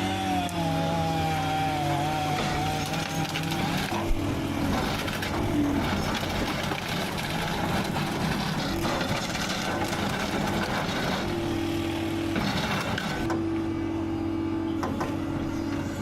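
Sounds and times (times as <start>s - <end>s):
heavy machine engine running: 0.0s - 16.0s
held whine: 0.0s - 16.0s
rough noisy machine sound: 0.0s - 16.0s.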